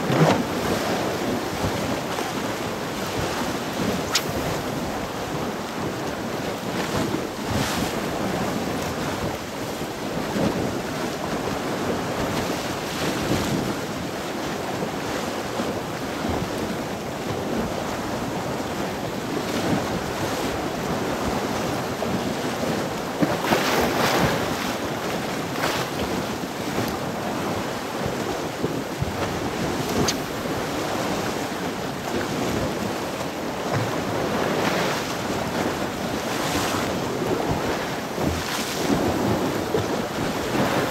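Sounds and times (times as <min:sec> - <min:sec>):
sea waves washing on shore: 0:00.0 - 0:40.9
wind buffeting microphone: 0:00.0 - 0:40.9.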